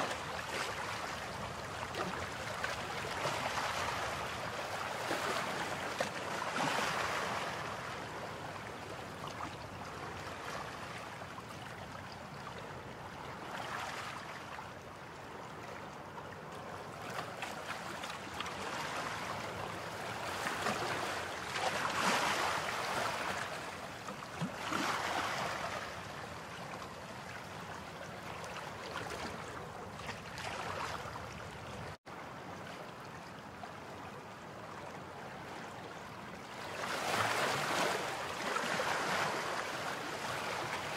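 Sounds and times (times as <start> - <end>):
sea waves breaking on beach: 0.0 - 11.8, 15.3 - 32.4, 36.4 - 40.9.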